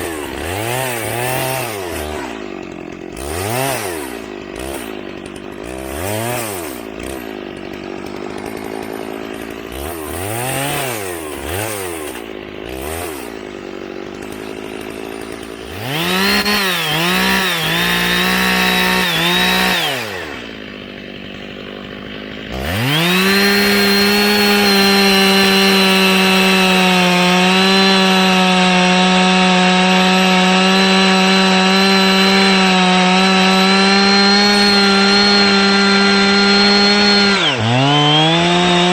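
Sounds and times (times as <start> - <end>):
chainsaw revving and cutting: 0.0 - 38.9.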